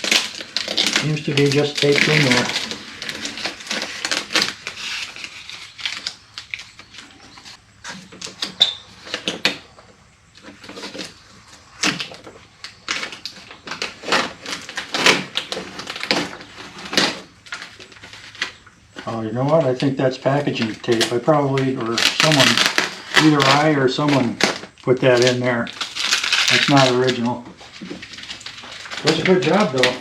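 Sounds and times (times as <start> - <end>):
plastic and tape peeled away: 0.0 - 30.0.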